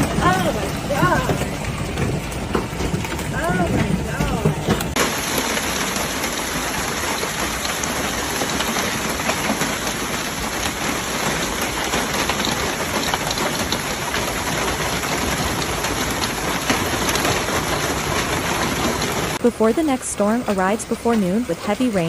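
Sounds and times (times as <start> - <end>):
heavy rain pelting down: 0.0 - 22.0.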